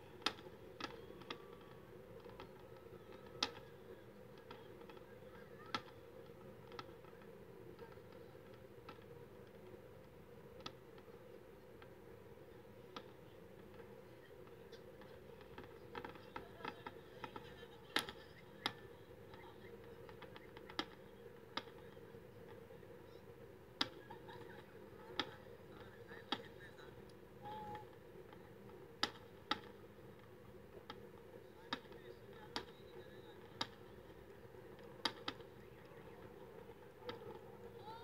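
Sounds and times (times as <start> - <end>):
distant fireworks popping: 0.0 - 38.0
low background hum: 0.0 - 38.0.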